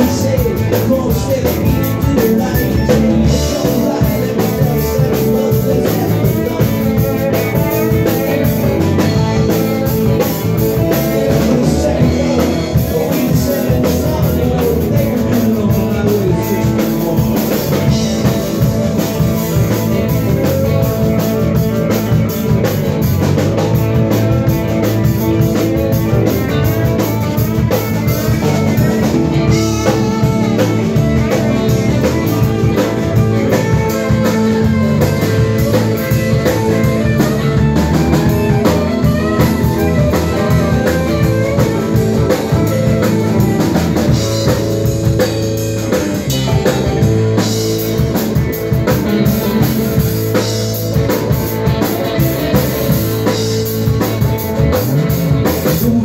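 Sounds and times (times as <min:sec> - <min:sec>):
drum kit: 0:00.0 - 0:56.0
electric guitars: 0:00.0 - 0:56.0
keyboards: 0:00.0 - 0:56.0.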